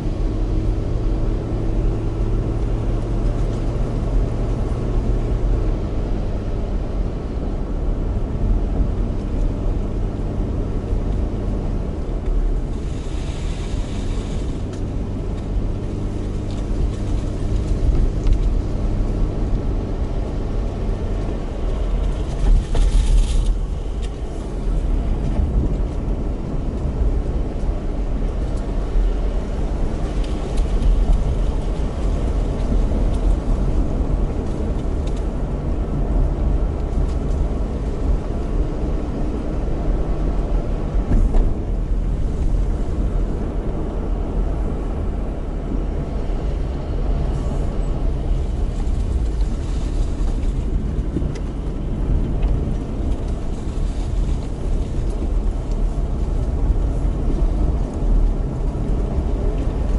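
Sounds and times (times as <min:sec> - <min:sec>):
car engine pulling uphill: 0:00.0 - 0:59.9
tyres rumbling on road: 0:00.0 - 0:59.9.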